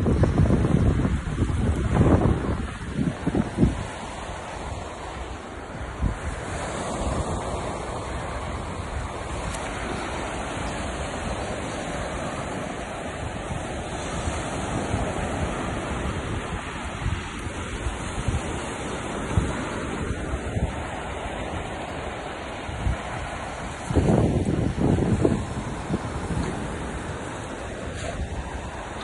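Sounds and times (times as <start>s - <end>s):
sea surf washing onto beach: 0.0s - 29.0s
wind buffeting microphone: 0.0s - 29.0s.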